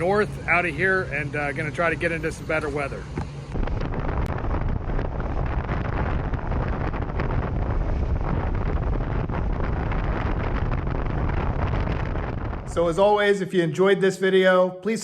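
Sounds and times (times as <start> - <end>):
road noise: 0.0 - 13.1
wind rushing over microphone: 0.0 - 13.6.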